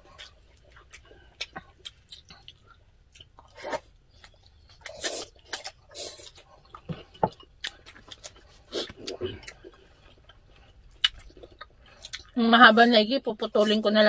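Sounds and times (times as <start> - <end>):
chewing and mouth noises: 0.0 - 12.5.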